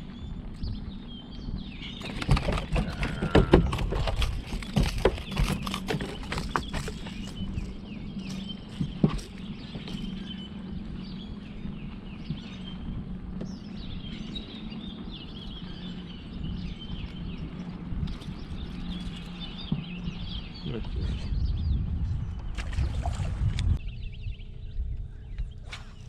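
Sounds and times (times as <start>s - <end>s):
birds chirping: 0.0s - 23.2s, 23.8s - 26.0s
low hum: 0.0s - 26.0s.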